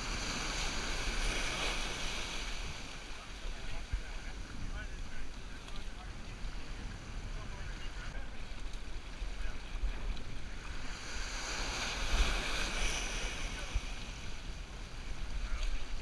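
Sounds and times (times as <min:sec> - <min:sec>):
waves splashing over rocks: 0:00.0 - 0:16.0.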